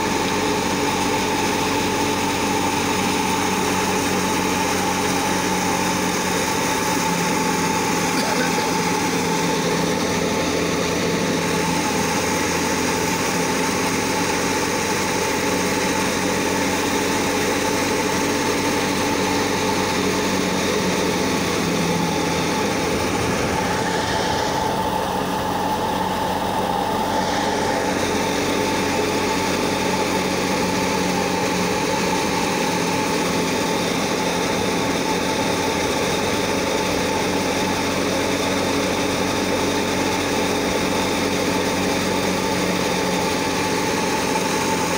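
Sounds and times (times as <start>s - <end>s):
thresher mechanical drone: 0.0s - 44.9s.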